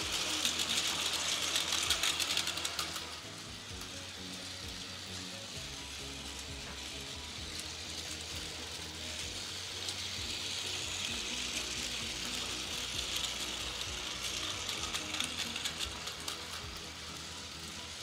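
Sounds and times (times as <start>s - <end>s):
toy train motor whirring: 0.0s - 18.0s
toy train wheels clicking: 0.0s - 18.0s.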